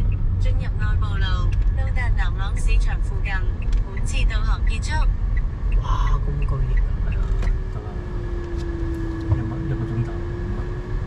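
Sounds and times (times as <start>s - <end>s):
car engine and tyres rumble: 0.0s - 11.0s.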